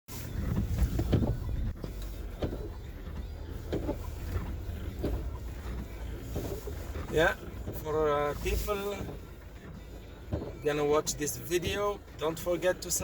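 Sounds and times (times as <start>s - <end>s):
low car interior rumble: 0.1s - 13.0s.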